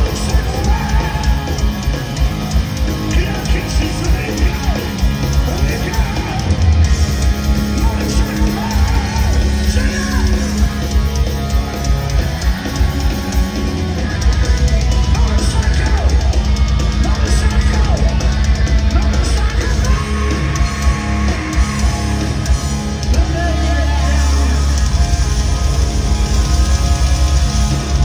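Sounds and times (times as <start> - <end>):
heavy metal band playing: 0.0 - 28.0.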